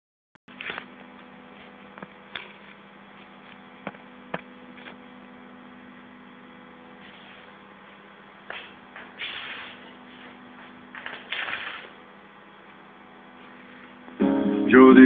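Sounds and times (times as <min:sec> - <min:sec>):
electrical mains hum: 0:00.5 - 0:15.0.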